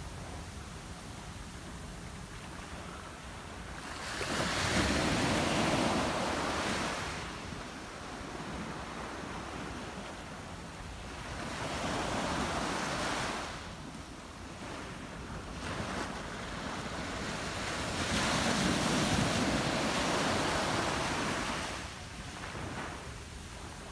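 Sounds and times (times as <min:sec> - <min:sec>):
small waves breaking on beach: 0:02.1 - 0:23.9.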